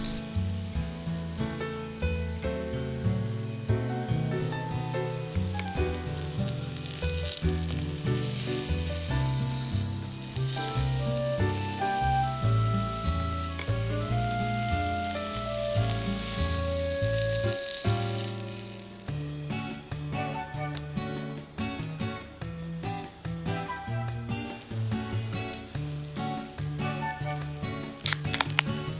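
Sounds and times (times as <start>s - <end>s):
background music: 0.0s - 28.9s
fire crackling and hissing: 0.0s - 28.9s.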